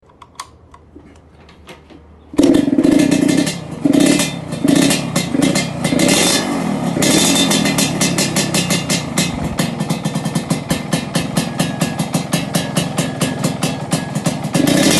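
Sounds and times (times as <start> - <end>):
motorcycle engine revving: 2.4 - 14.9.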